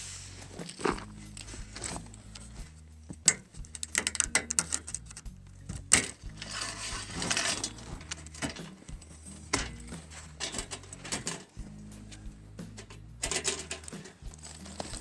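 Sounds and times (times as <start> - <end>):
scraping rustle: 0.0 - 3.4, 6.0 - 15.0.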